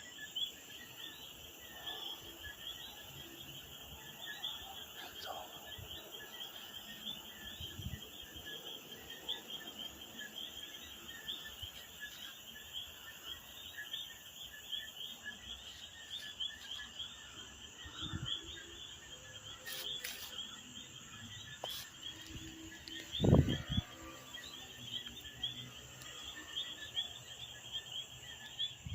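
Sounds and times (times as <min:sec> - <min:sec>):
insects chirping: 0:00.0 - 0:28.9.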